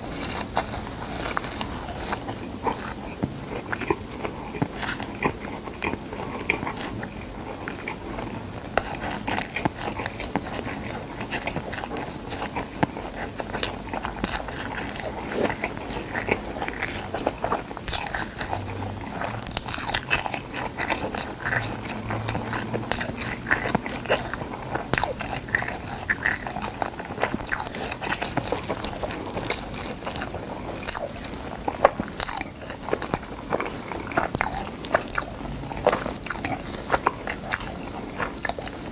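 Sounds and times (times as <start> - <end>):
crunchy chewing of seaweed: 0.0 - 38.9.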